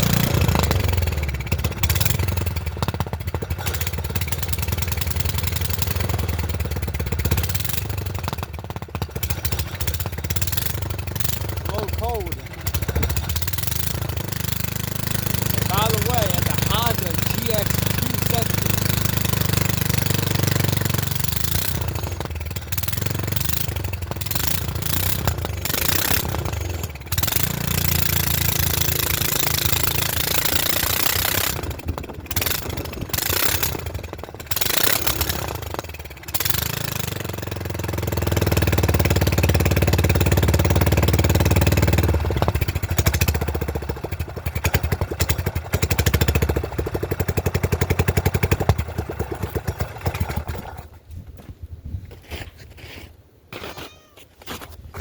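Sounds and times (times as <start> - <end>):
small engine running unevenly: 0.0 - 51.1.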